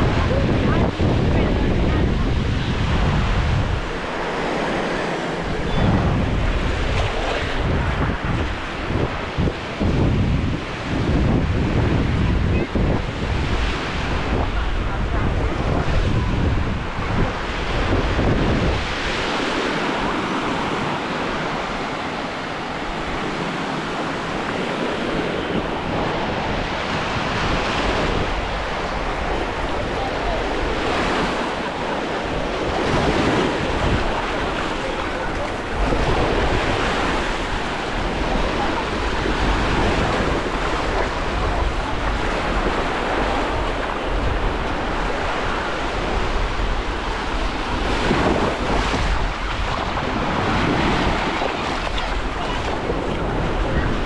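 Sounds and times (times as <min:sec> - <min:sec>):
small waves washing on sand: 0:00.0 - 0:54.0
wind buffeting microphone: 0:00.0 - 0:54.0.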